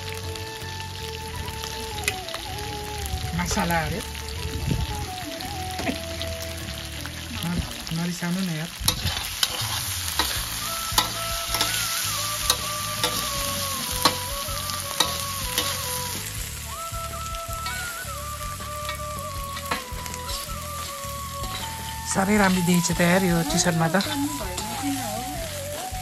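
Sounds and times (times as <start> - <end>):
food frying and sizzling: 0.0 - 26.0.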